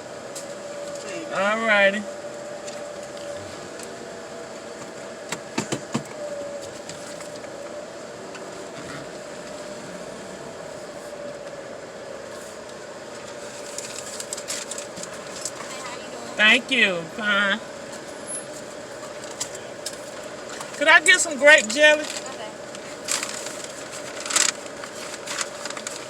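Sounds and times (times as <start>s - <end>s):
car idling hum: 0.0s - 26.0s
constant tone: 0.0s - 26.0s.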